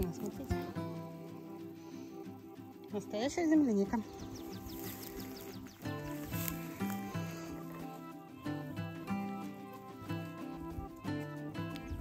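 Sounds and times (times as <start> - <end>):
background music with sustained chords: 0.0 - 12.0.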